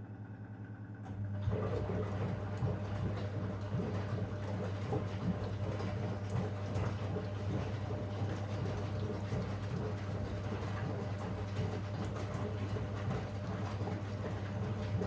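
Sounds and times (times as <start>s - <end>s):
washing machine motor hum: 1.2s - 15.0s.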